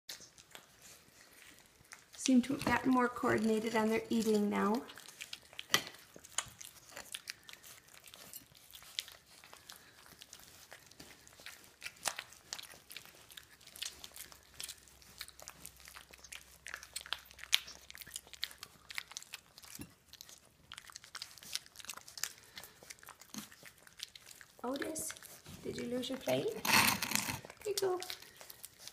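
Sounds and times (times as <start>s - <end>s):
puppies eating wet food: 0.1s - 28.9s.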